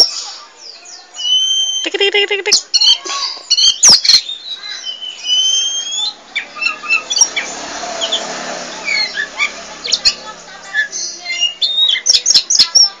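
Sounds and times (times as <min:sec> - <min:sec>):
bird singing whistled notes: 0:00.0 - 0:02.0, 0:02.6 - 0:13.0.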